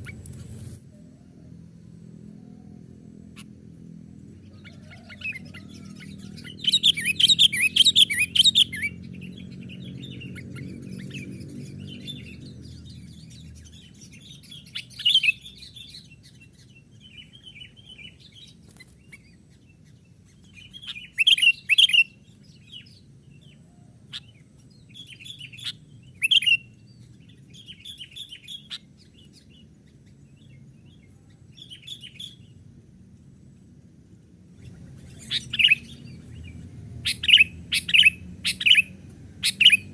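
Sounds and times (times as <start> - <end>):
birds chirping: 0.0 - 0.7, 2.4 - 39.9.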